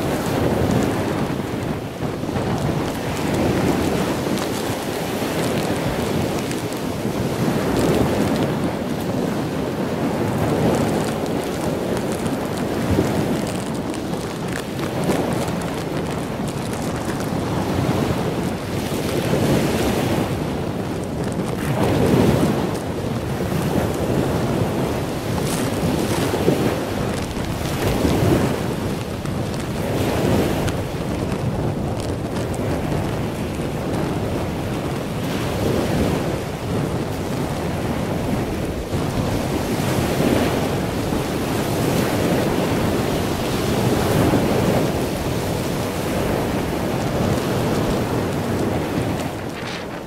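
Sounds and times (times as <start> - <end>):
storm surf breaking: 0.0 - 50.0
wind buffeting microphone: 0.0 - 50.0.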